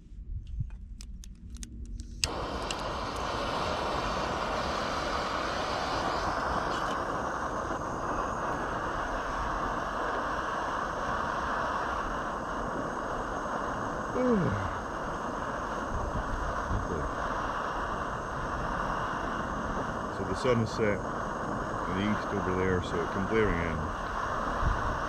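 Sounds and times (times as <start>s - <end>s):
gas stove burner hissing: 2.0s - 25.0s.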